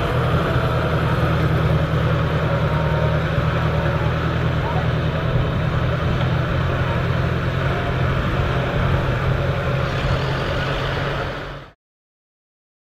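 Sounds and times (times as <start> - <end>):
tractor engine running under load: 0.0 - 11.8.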